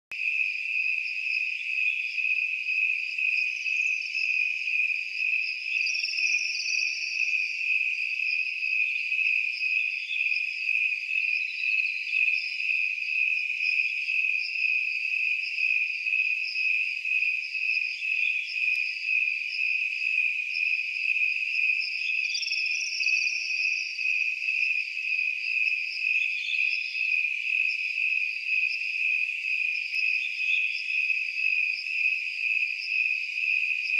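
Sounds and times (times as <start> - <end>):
crickets chirping: 0.2 - 33.9.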